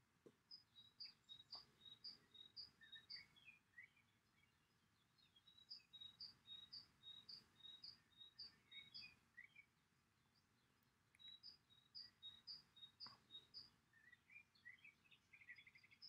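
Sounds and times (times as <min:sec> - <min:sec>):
faint songbird song: 0:00.0 - 0:16.0.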